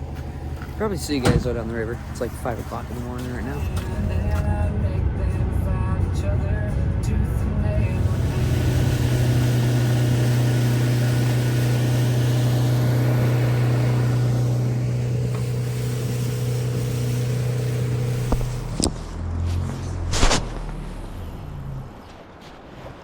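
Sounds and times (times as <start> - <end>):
boat motor humming: 0.0 - 22.4.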